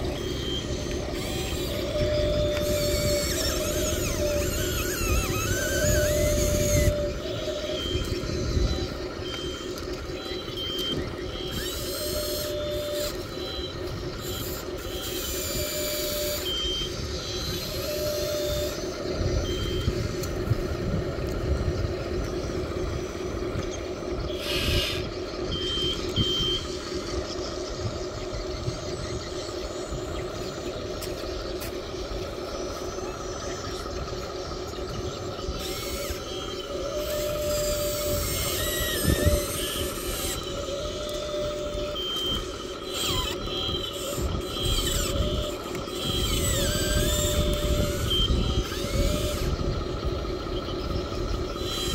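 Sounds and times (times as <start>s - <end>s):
small electric motors whining: 0.0s - 51.9s
steady mechanical rattle: 0.0s - 51.9s.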